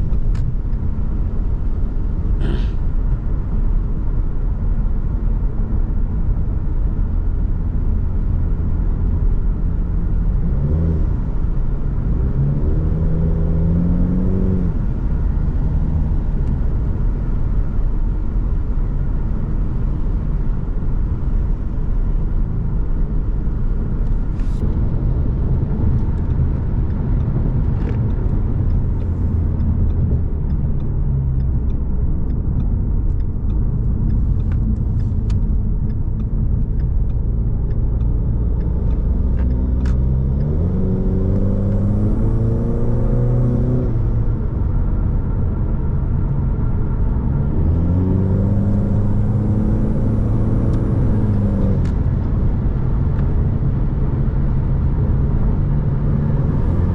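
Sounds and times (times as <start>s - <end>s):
car engine: 0.0s - 56.9s
road rumble: 0.0s - 56.9s.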